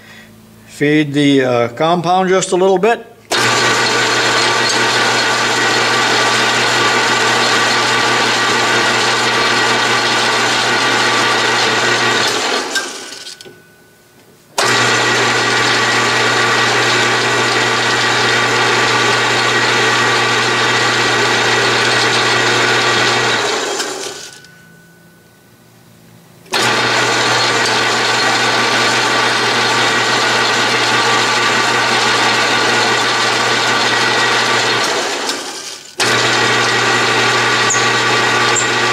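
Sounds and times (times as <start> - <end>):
metal lathe running: 3.3 - 13.5, 14.6 - 24.5, 26.5 - 38.9.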